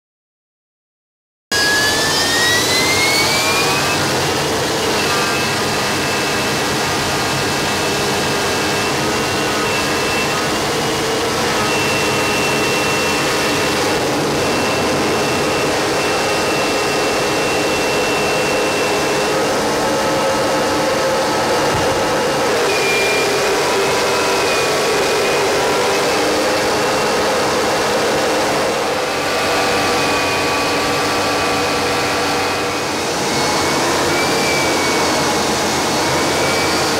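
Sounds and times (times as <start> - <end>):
jet engine whine and rush: 1.5 - 36.9.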